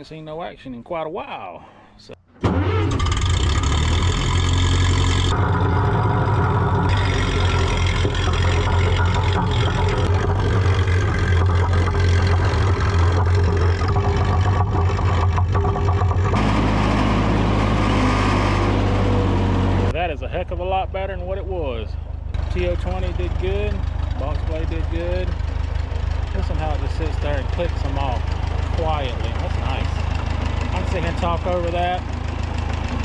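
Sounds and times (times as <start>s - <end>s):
tractor engine running: 2.3s - 33.0s.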